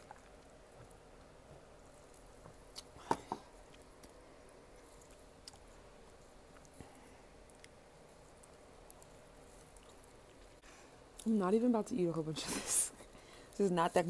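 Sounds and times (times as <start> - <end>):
chewing and mouth sounds: 0.0 - 11.4.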